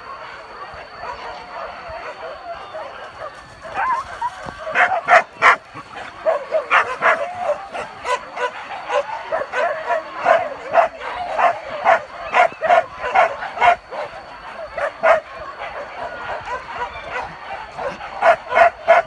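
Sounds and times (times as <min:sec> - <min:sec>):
hunting dogs barking and yelping: 0:00.0 - 0:19.0.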